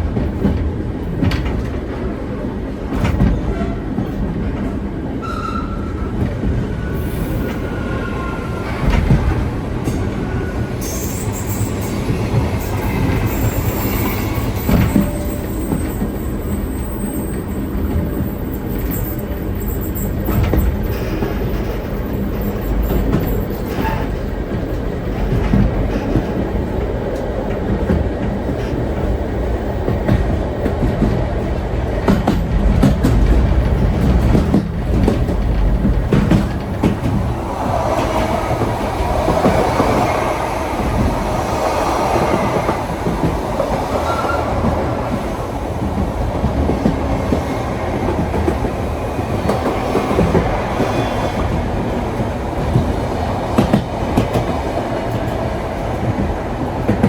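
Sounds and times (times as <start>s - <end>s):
tram low rumble: 0.0s - 57.0s.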